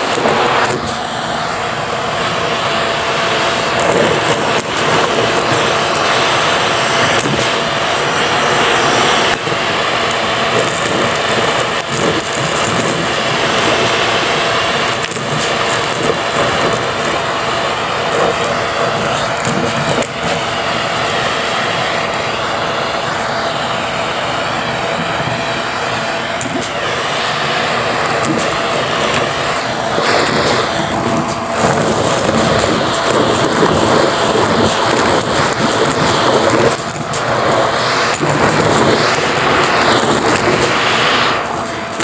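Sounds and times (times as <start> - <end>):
debris rattling in nozzle: 0.0 - 21.5, 26.3 - 42.0
vacuum cleaner running: 0.0 - 42.0.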